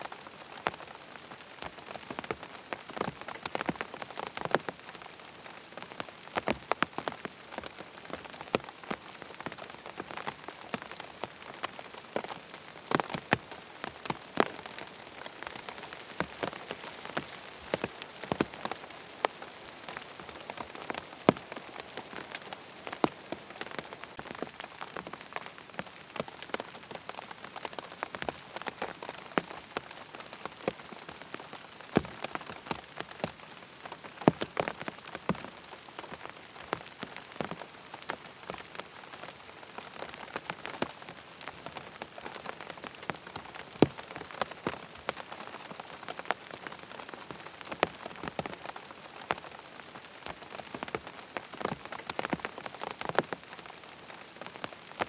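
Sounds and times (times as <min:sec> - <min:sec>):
steady rain with drips: 0:00.0 - 0:55.0.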